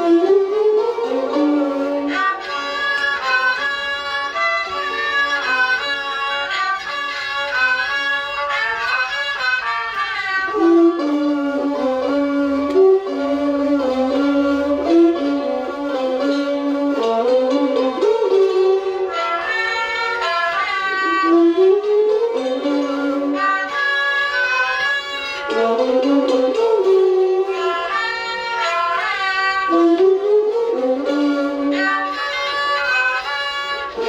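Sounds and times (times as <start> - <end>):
classical ensemble melody: 0.0 - 34.0.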